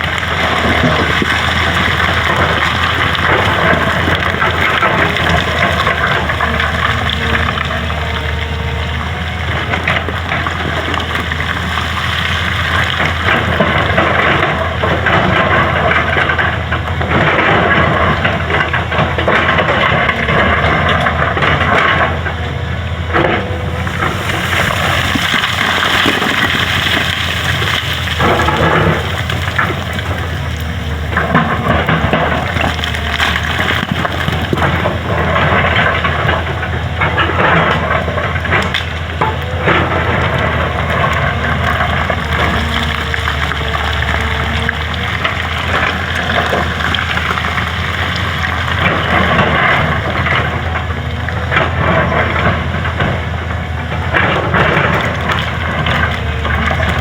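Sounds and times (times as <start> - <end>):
bucket scraping and breaking material: 0.0 - 22.2, 23.2 - 53.5
excavator engine humming: 0.0 - 57.0.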